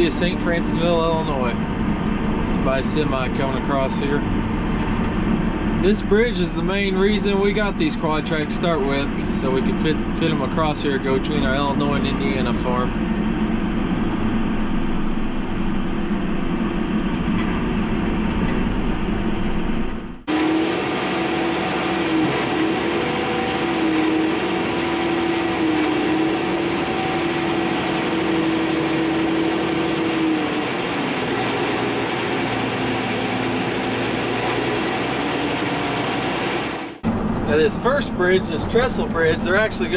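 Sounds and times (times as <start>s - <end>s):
high sustained whine: 0.0s - 39.9s
tractor engine drone: 0.0s - 39.9s.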